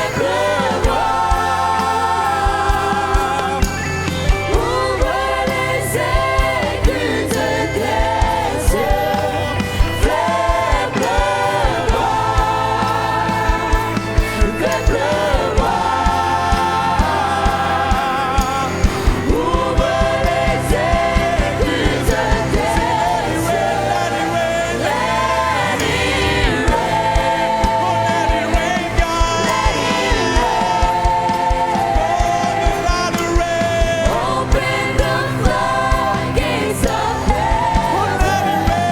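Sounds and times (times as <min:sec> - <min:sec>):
band with bass and drums: 0:00.0 - 0:38.9
voices singing: 0:00.0 - 0:38.9.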